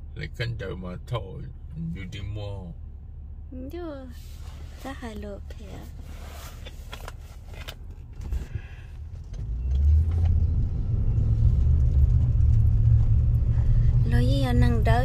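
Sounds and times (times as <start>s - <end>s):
car rumbling: 0.0s - 15.0s.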